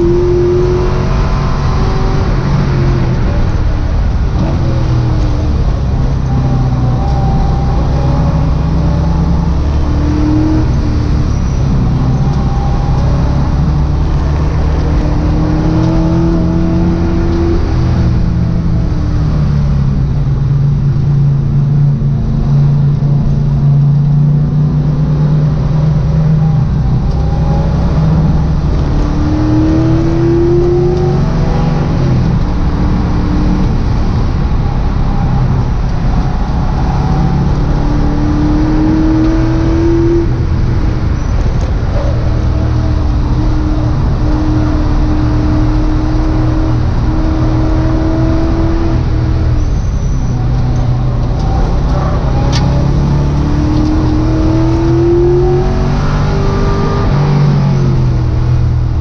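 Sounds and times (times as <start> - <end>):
car engine revving at speed: 0.0 - 59.0.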